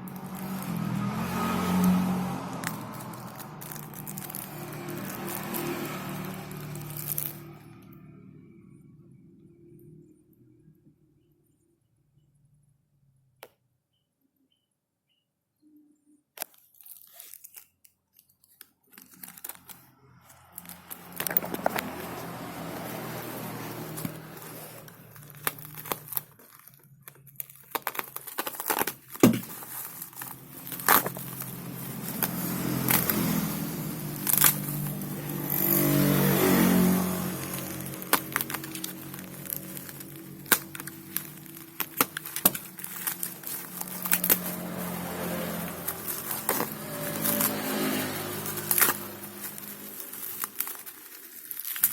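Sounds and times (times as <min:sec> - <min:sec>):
plastic packaging crinkling: 0:00.0 - 0:07.7, 0:16.4 - 0:51.9.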